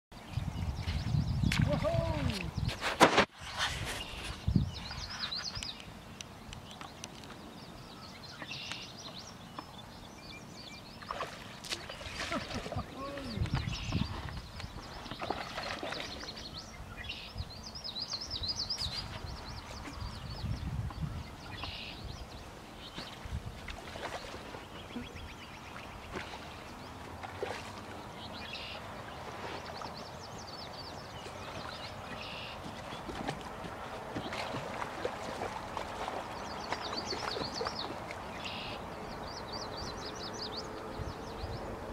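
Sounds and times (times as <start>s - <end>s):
small birds chirping: 3.9s - 41.9s.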